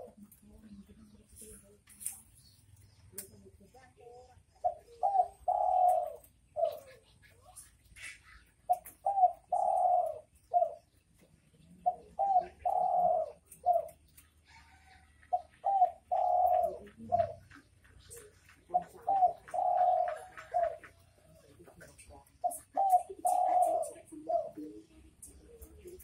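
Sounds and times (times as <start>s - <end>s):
dove cooing: 0.0s - 1.2s, 4.4s - 26.0s.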